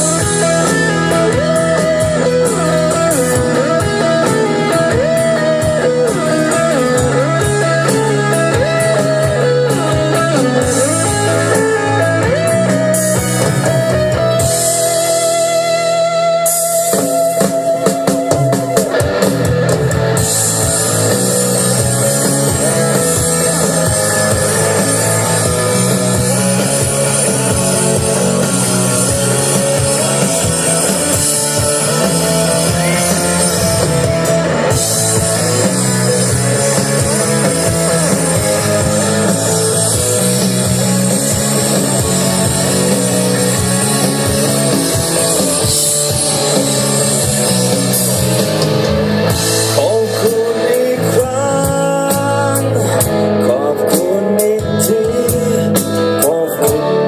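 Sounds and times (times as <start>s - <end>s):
bass line: 0.0s - 57.0s
drum kit: 0.0s - 57.0s
electric guitar: 0.0s - 57.0s.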